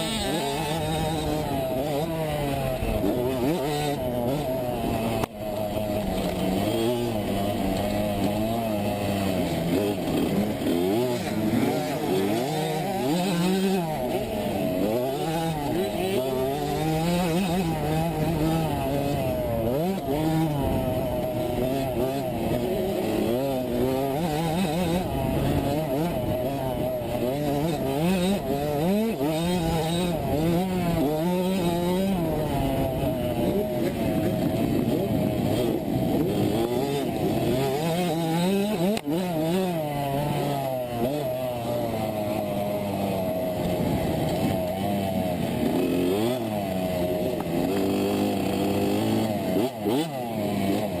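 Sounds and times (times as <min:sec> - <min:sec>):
two-stroke motocross engine revving: 0:00.0 - 0:51.0.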